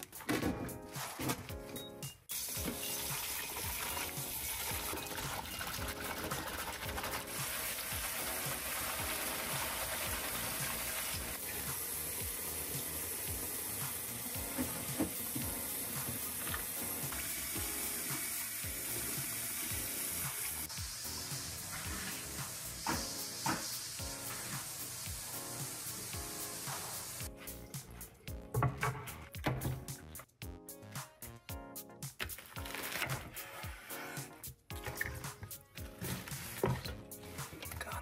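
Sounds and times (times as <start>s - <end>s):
background music: 0.0s - 38.0s.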